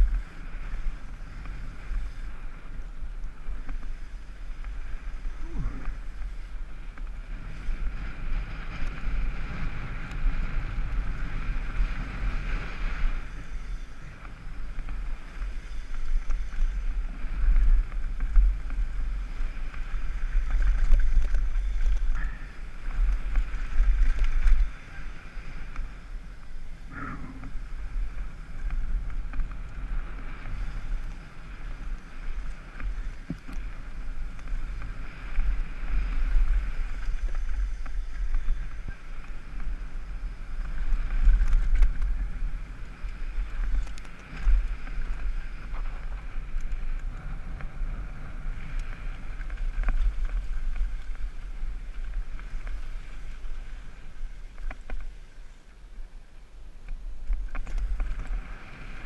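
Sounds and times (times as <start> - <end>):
bike tyres on gravel trail: 0.0 - 59.0
wind buffeting microphone: 0.0 - 59.0.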